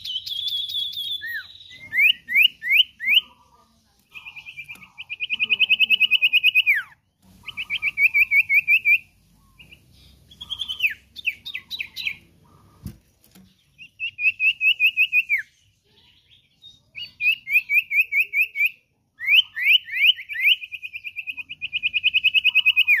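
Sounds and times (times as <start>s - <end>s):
bird singing whistled trills: 0.0s - 3.3s, 4.1s - 12.3s, 13.6s - 23.0s.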